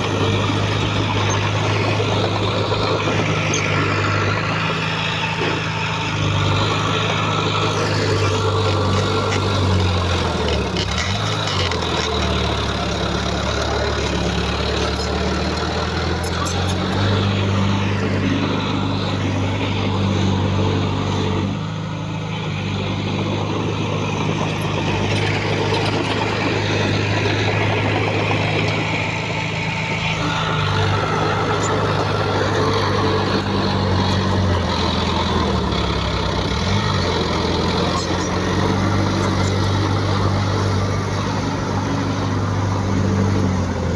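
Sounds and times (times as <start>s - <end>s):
heavy diesel engine droning: 0.0s - 43.9s.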